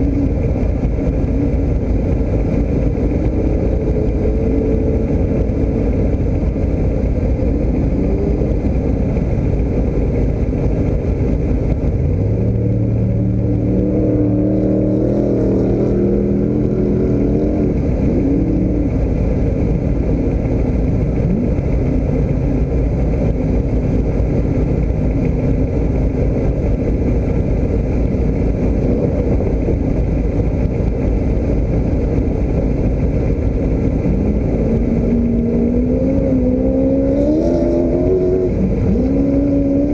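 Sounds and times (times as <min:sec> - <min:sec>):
engine low rumble: 0:00.0 - 0:39.9
steady engine note: 0:00.0 - 0:39.9.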